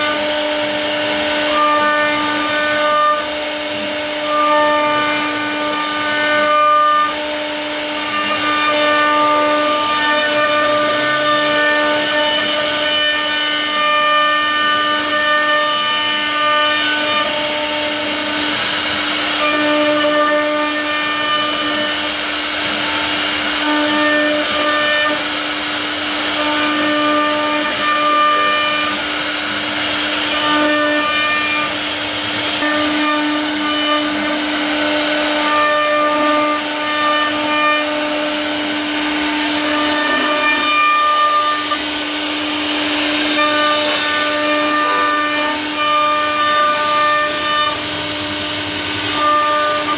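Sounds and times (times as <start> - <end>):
hiss of wood being milled: 0.0 - 49.9
router spindle whining: 0.0 - 49.9.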